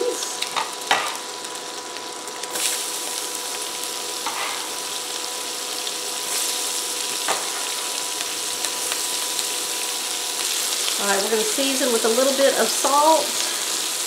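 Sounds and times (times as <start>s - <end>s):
onions sizzling in a skillet: 0.0s - 14.0s.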